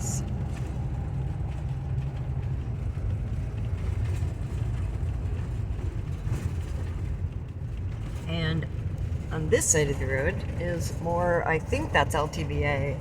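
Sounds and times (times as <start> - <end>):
engine and road noise: 0.0 - 13.0
faint rattles: 0.2 - 13.0.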